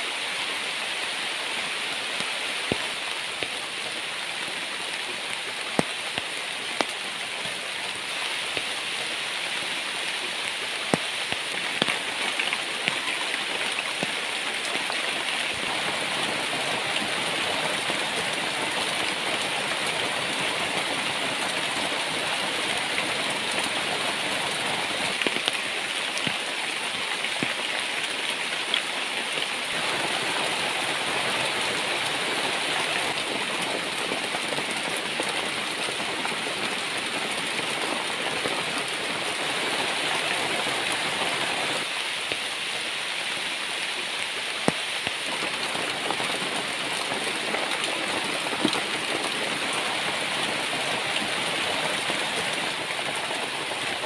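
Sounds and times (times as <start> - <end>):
heavy rain pouring: 0.0 - 54.0
sharp rain taps: 0.4 - 54.0.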